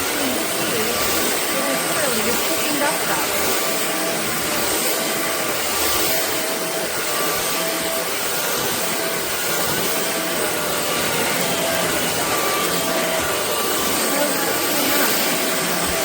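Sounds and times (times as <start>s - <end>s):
vacuum cleaner suction hiss: 0.0s - 16.0s.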